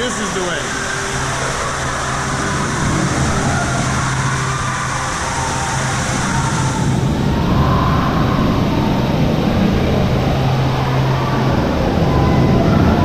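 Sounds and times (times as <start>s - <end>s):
low steady hum: 0.0s - 13.0s
rushing water wash: 0.0s - 13.0s.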